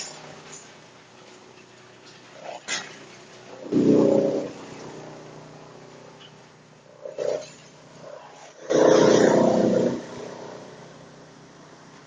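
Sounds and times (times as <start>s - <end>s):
wood chipper growling: 0.0s - 12.0s
wood chipper running: 0.0s - 12.0s.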